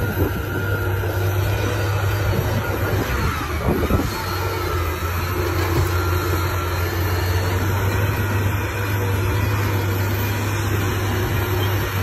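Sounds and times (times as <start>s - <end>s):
constant noisy rush: 0.0s - 12.0s
truck diesel engine droning: 0.0s - 12.0s.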